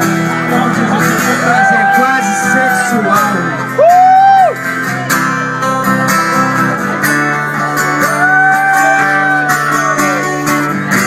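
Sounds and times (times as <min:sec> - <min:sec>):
acoustic guitar strummed chords: 0:00.0 - 0:03.8, 0:04.5 - 0:11.0.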